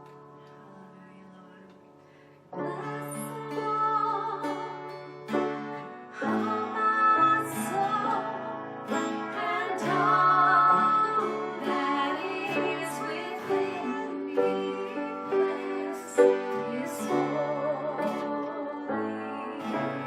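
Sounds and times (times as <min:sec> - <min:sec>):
woman singing: 0:00.4 - 0:01.9, 0:02.5 - 0:05.0, 0:06.1 - 0:20.0.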